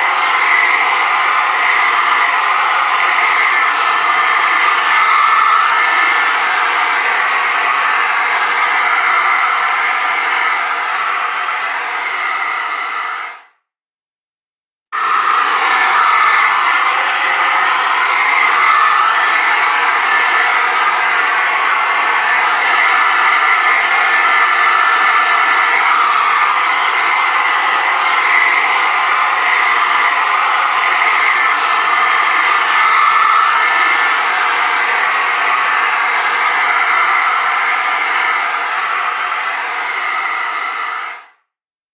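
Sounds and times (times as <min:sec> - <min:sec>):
hair dryer running: 0:00.0 - 0:13.5, 0:15.0 - 0:41.4.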